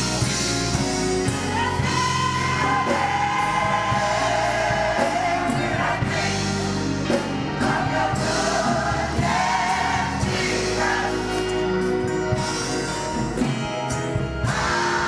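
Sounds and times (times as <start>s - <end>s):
choir singing gospel song: 0.0s - 15.0s
instrumental accompaniment: 0.0s - 15.0s
steady bass: 0.0s - 15.0s.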